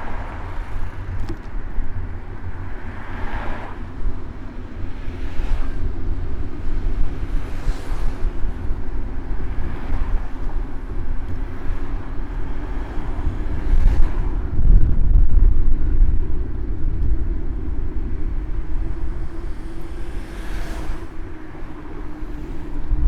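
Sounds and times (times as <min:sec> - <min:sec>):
low rumble from bicycle riding: 0:00.0 - 0:23.0
vehicles passing: 0:00.0 - 0:23.0.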